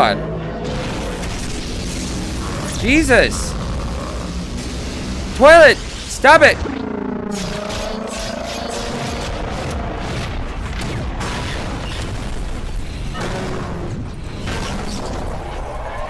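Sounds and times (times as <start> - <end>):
explosions: 0.6 - 15.8.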